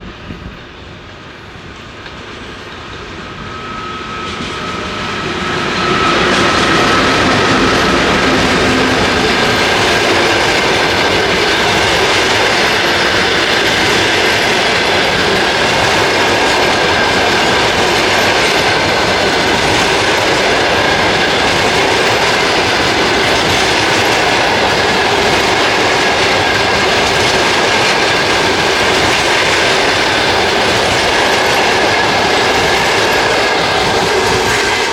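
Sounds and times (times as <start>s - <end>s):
train wheels clattering on rails: 0.0s - 34.9s.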